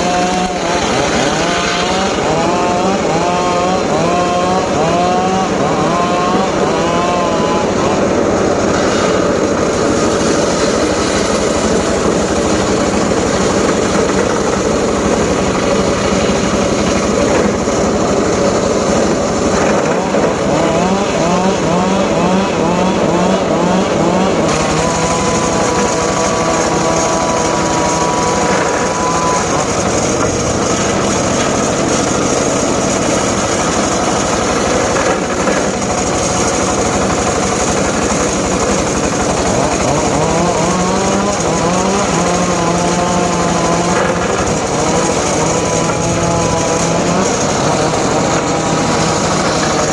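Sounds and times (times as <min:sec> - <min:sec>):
engine-driven saw running: 0:00.0 - 0:49.9.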